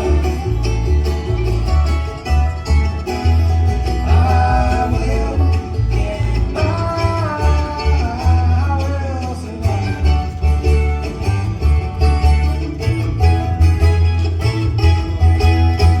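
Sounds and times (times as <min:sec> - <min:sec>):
bass line: 0:00.0 - 0:16.0
guitar: 0:00.0 - 0:16.0
picked banjo: 0:00.0 - 0:16.0.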